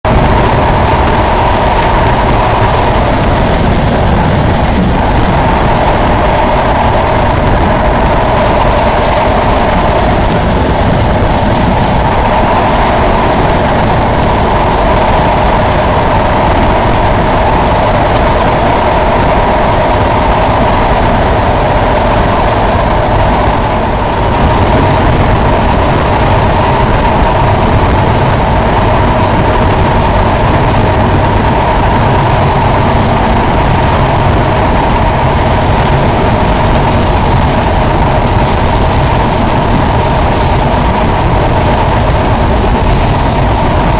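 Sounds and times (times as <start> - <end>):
rushing air: 0.0 - 43.9
train wheels on rails: 0.0 - 43.9.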